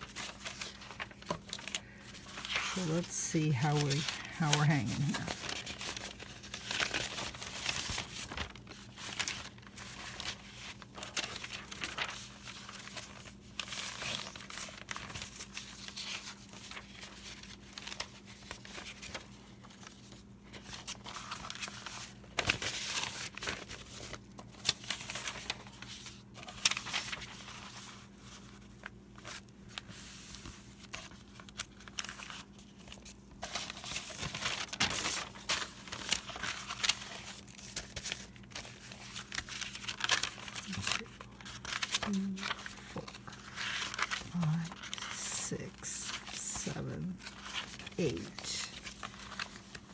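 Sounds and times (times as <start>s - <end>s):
paper rustling and crinkling: 0.0s - 49.9s.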